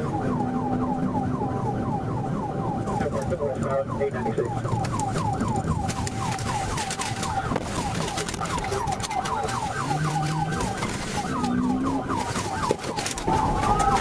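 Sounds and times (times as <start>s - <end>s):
car engine and road noise: 0.0s - 14.0s
police siren yelping: 0.0s - 14.0s.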